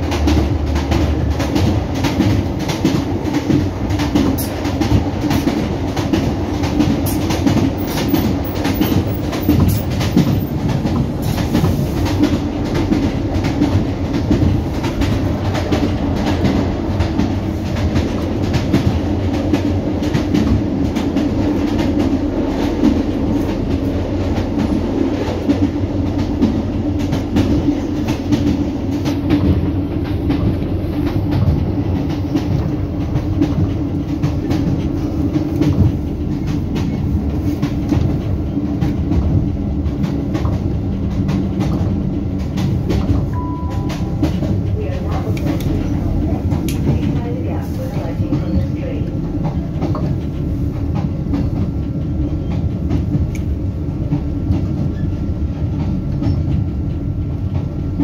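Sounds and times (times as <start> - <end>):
train interior drone: 0.0 - 58.0.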